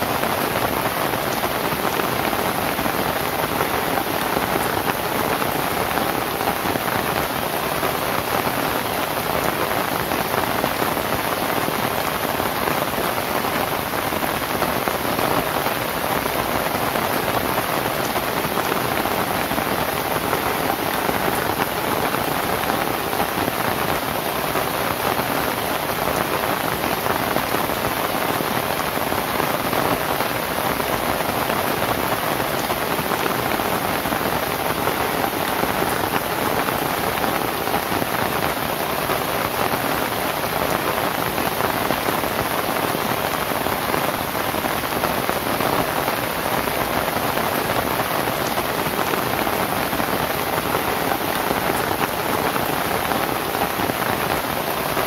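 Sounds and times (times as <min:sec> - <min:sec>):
rain on a thatch roof: 0:00.0 - 0:55.0.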